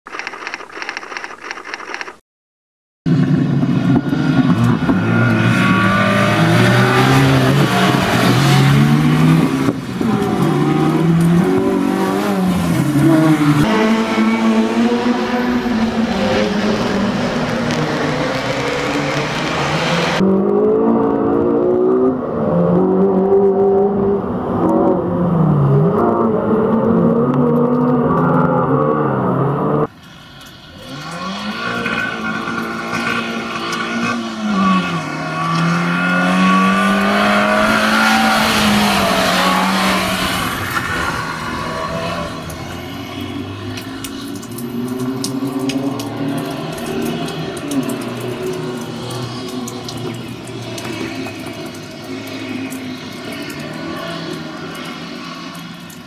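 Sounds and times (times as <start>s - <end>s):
rally car engine revving: 3.1s - 29.9s, 30.7s - 56.0s.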